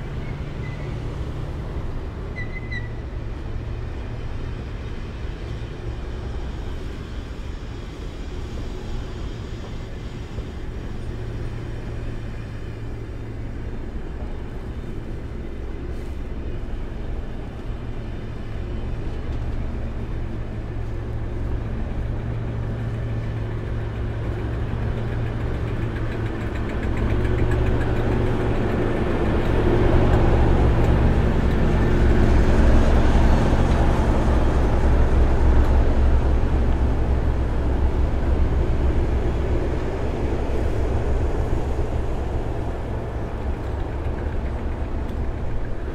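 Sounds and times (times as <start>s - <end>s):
diesel locomotive engine drone: 0.0s - 45.9s.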